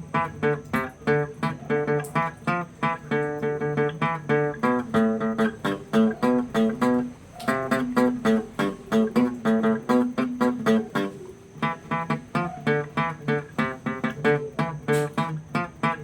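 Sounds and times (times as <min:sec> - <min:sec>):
guitar picking notes: 0:00.0 - 0:16.0.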